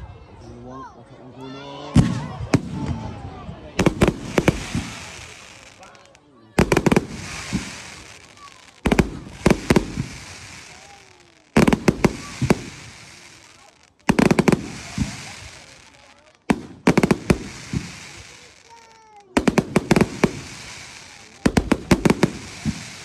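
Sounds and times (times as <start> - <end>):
fireworks bangs: 2.0 - 23.0
fireworks crackle: 3.8 - 23.0.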